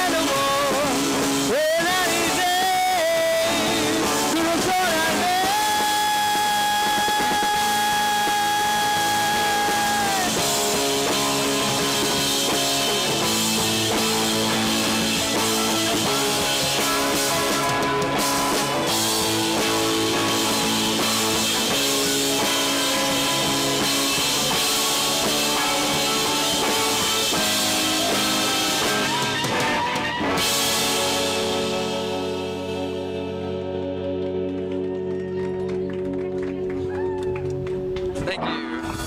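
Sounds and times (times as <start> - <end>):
rising guitar line: 0.0 - 39.0
rock band playing: 0.0 - 39.0.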